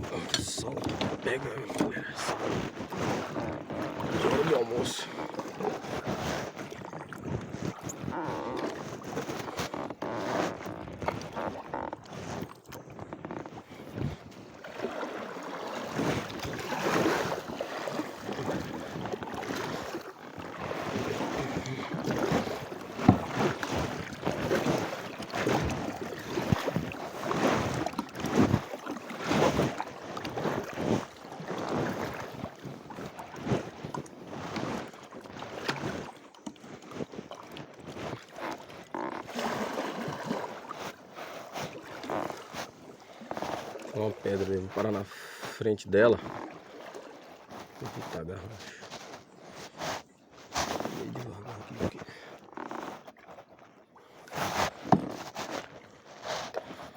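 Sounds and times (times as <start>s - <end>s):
paddle splashing in water: 0.0s - 56.9s.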